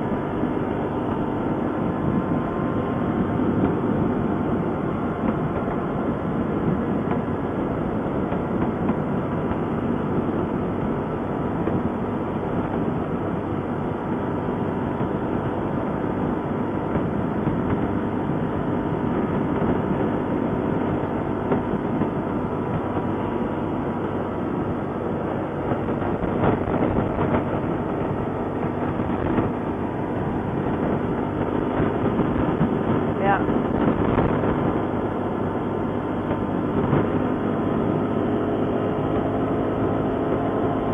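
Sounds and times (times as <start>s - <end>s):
atv engine running: 0.0s - 40.9s
rattle and rumble: 0.0s - 40.9s.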